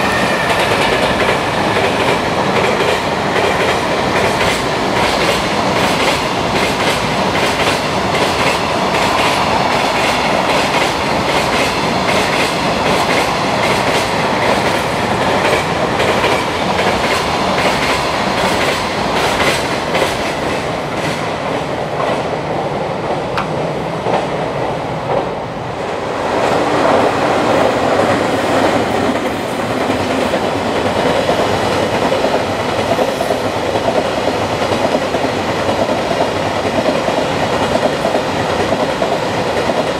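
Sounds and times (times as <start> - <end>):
freight train clickety-clack: 0.0 - 39.9
freight train rushing past: 0.0 - 39.9.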